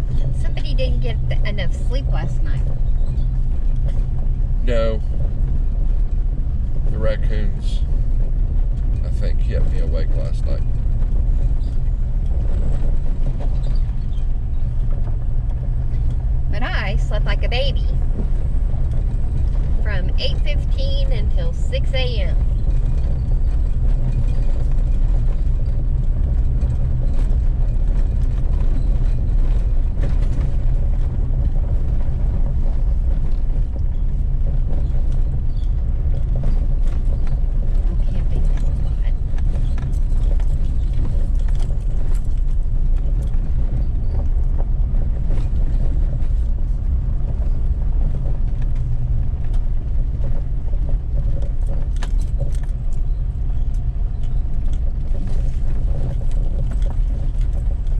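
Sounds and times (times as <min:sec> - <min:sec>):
truck engine and tyres rumbling: 0:00.0 - 0:57.9
gravel clicks and rattles: 0:02.5 - 0:16.8, 0:17.6 - 0:57.9.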